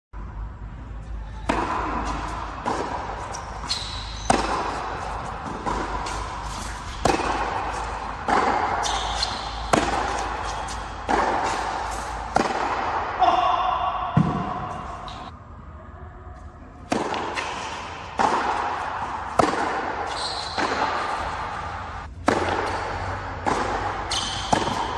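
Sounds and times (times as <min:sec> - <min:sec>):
tennis ball bouncing on court: 0:01.3 - 0:15.3, 0:16.8 - 0:24.9
tennis ball hit by rackets: 0:01.4 - 0:15.3, 0:16.8 - 0:24.9.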